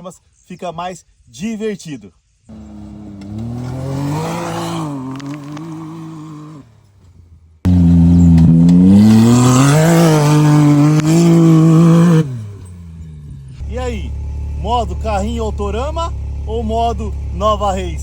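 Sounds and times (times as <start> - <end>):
utility vehicle engine revving: 2.5 - 18.0.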